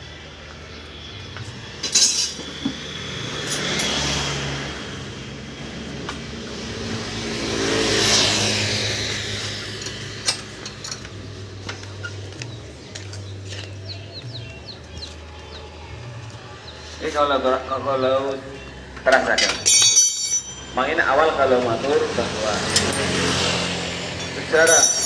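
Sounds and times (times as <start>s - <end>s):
vehicle engine running: 0.0s - 19.2s, 20.5s - 25.0s.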